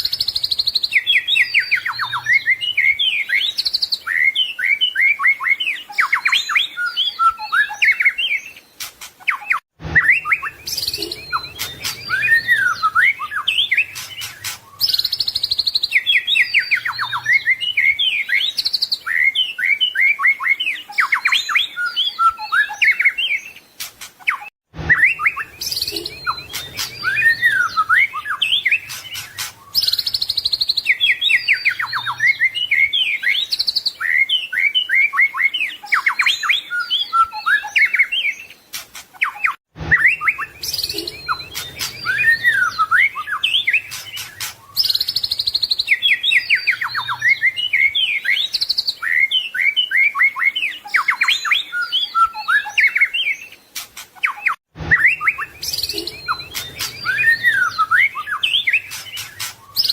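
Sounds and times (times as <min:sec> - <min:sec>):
songbird singing whistles and trills: 0:00.0 - 0:59.9.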